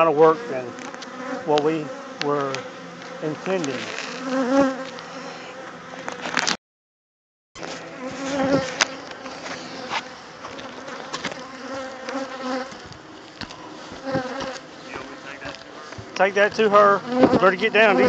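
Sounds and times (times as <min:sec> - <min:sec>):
honeybees buzzing: 0:00.0 - 0:06.5, 0:07.6 - 0:18.0.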